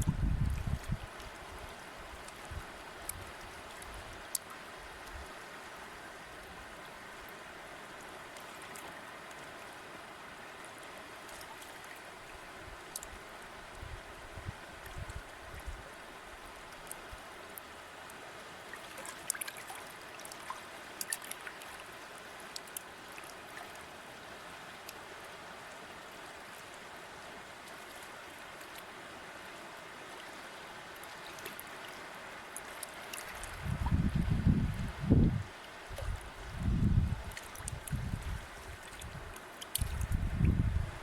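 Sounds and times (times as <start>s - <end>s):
river water flowing: 0.0s - 41.0s
water splashes and trickles: 0.0s - 41.0s.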